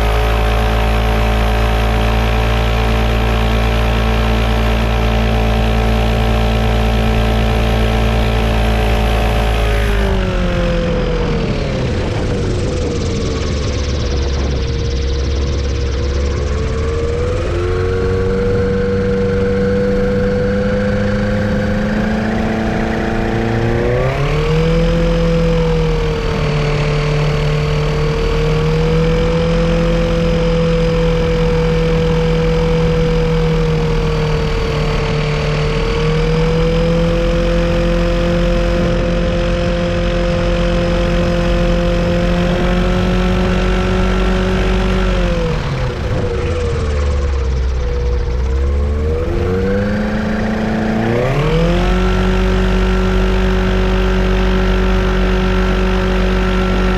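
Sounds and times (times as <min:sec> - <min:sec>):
airplane engine running: 0:00.0 - 0:56.9.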